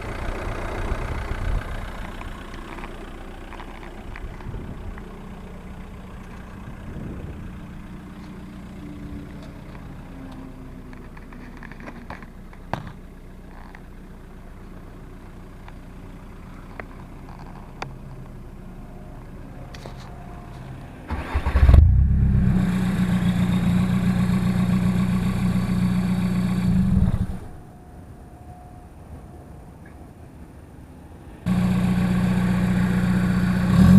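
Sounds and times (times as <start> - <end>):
diesel engine idling and revving: 0.0 - 27.7, 31.2 - 33.9.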